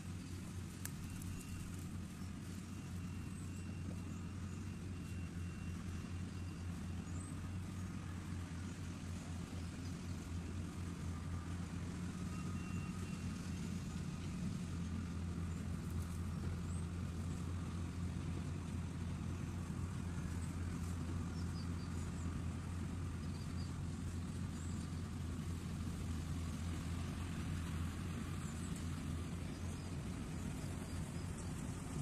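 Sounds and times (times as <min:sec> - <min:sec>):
combine harvester engine droning: 0:00.0 - 0:32.0.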